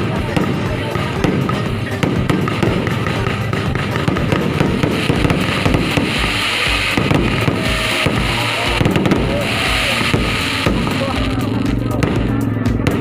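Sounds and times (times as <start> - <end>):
hissing crackle: 0.0 - 12.4
fireworks crackling and popping: 0.0 - 13.0
fireworks deep booms: 0.0 - 13.0.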